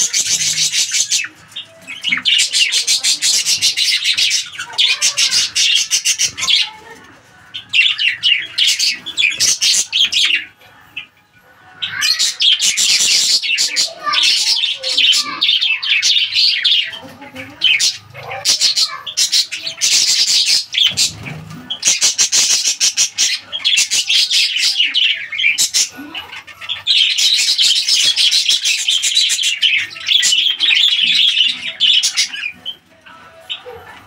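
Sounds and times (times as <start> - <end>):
budgerigars chattering: 0.0 - 6.8, 7.5 - 11.1, 11.8 - 34.0.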